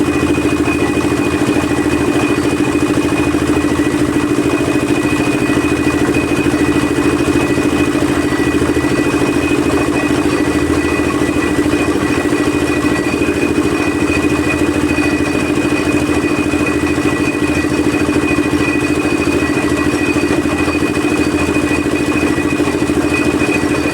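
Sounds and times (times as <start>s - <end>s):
concrete mixer engine running: 0.0s - 23.9s.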